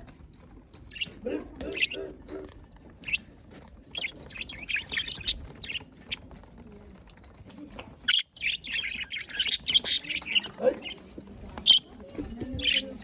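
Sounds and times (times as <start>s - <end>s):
budgerigars chirping: 0.0s - 6.4s, 7.7s - 13.0s.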